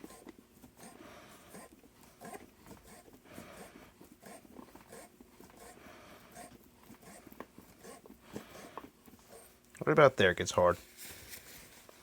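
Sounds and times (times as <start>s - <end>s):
vise screw scraping and clicking: 0.0s - 9.7s.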